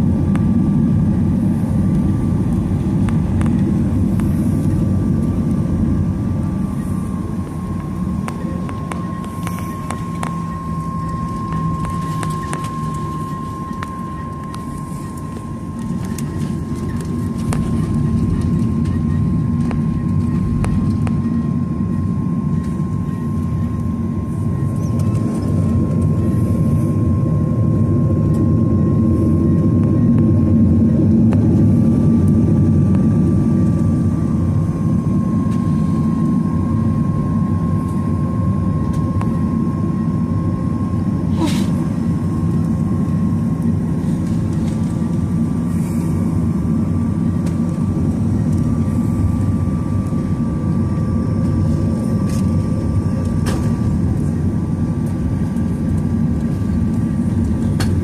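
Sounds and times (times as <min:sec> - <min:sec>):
jet engine cabin rumble and whine: 0:00.0 - 0:58.0.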